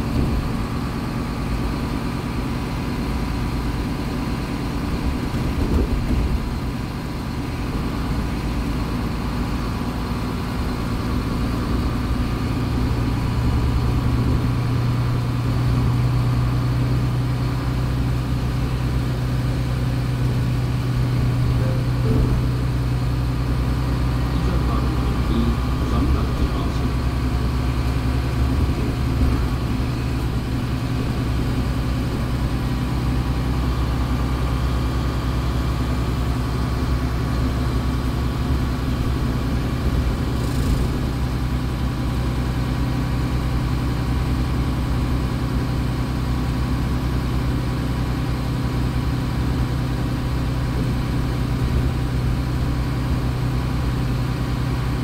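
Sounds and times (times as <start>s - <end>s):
bus engine idling: 0.0s - 55.0s.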